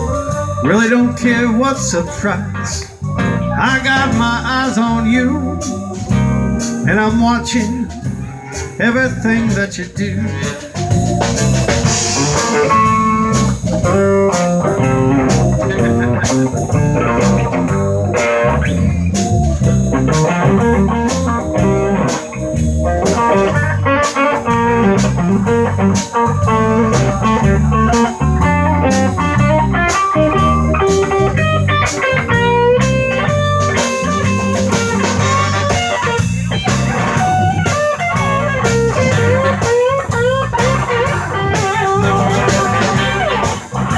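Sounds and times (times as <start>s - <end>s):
drum kit beat: 0.0s - 0.9s, 2.6s - 43.9s
bass guitar: 0.0s - 43.9s
electric guitar lead melody: 0.0s - 43.9s.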